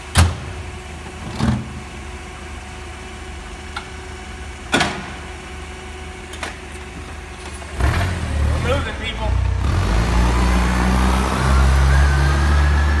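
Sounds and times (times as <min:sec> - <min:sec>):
forklift engine idling: 0:00.0 - 0:13.0.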